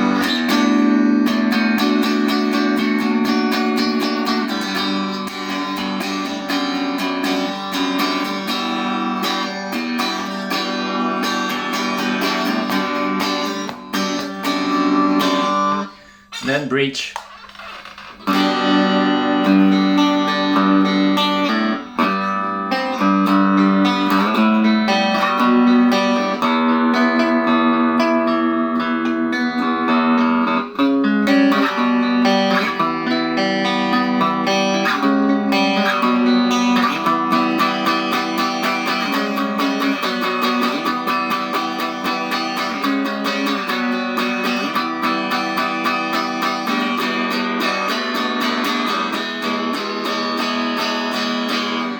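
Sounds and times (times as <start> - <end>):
electric guitar playing: 0.0 - 16.5, 17.3 - 51.9.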